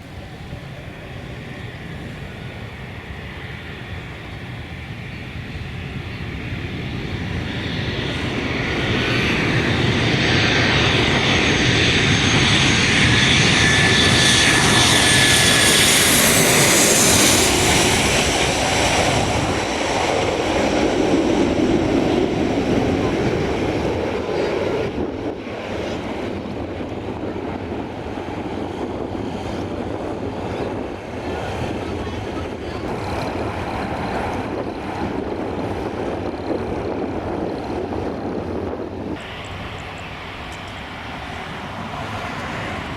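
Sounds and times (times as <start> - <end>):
jet airliner passing: 0.0 - 42.9.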